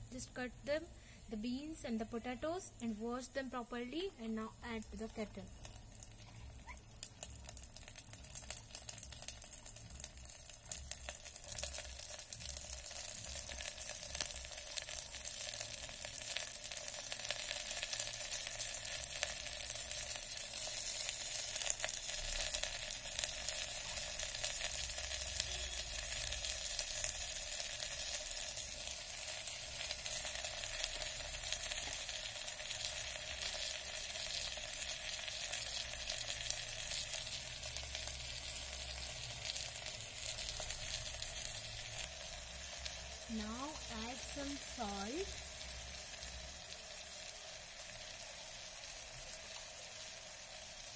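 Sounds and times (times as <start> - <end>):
vegetables sizzling in hot oil: 0.0 - 50.9.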